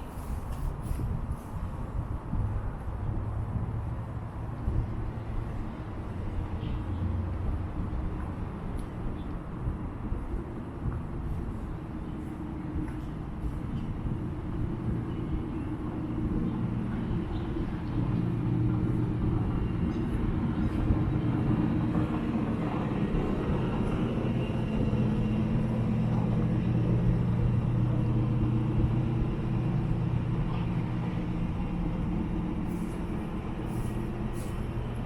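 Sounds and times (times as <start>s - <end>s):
low machinery hum: 0.0s - 35.0s.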